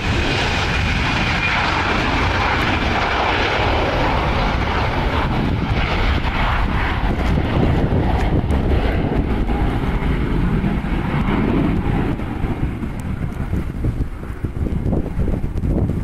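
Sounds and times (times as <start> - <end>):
jet engine noise: 0.0 - 16.0
wind rumbling on microphone: 0.0 - 16.0.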